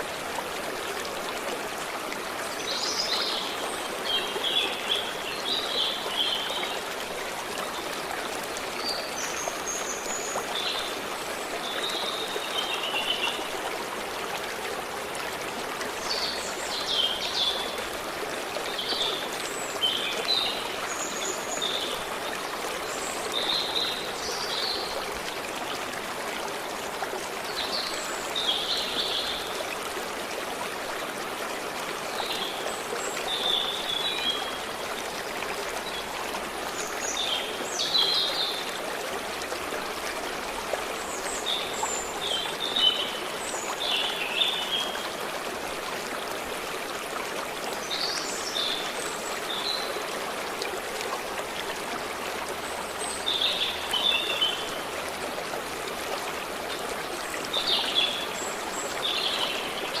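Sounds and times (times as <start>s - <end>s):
forest stream trickling: 0.0s - 60.0s.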